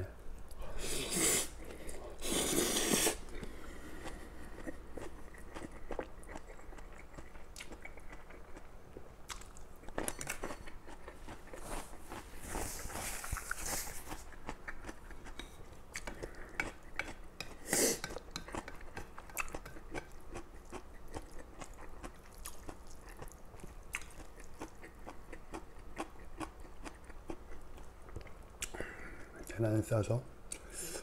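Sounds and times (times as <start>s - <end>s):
chewing noodles: 1.0s - 28.8s.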